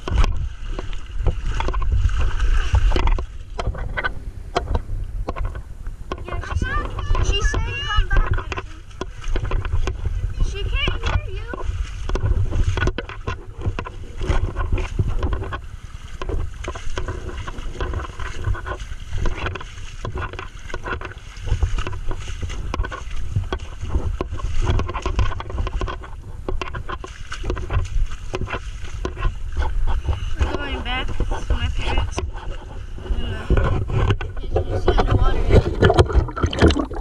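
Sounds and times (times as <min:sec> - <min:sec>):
river water sloshing and splashing: 0:00.0 - 0:37.0.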